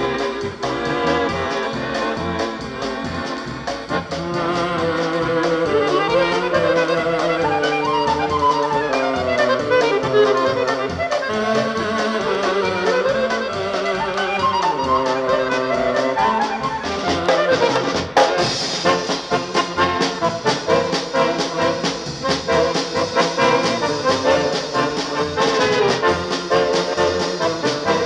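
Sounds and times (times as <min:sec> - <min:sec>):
bass and drums oom-pah beat: 0:00.0 - 0:28.0
brass playing polka tune: 0:00.0 - 0:28.0.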